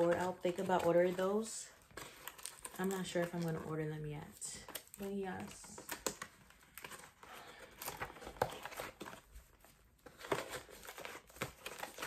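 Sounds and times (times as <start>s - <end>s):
plastic packets rustling: 0.0s - 12.0s.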